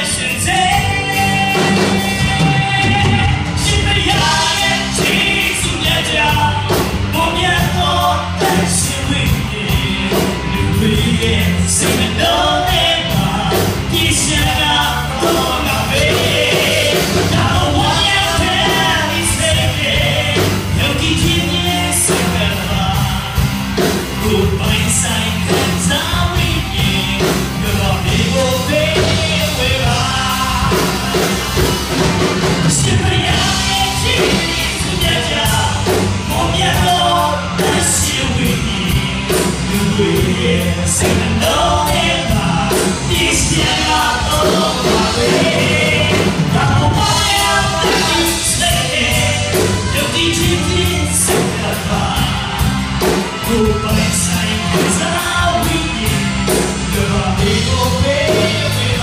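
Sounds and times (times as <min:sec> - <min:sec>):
drum kit beat: 0:00.0 - 0:59.0
singers with live band: 0:00.0 - 0:59.0.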